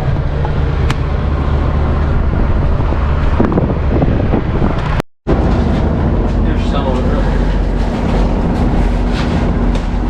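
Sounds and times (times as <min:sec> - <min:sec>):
road noise: 0:00.0 - 0:10.0
vehicle engine drone: 0:00.0 - 0:10.0
wind noise on microphone: 0:00.0 - 0:10.0.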